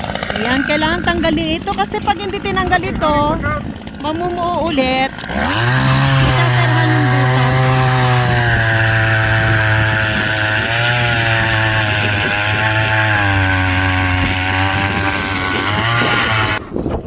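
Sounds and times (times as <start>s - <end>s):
powered ice auger drilling: 0.0s - 16.9s.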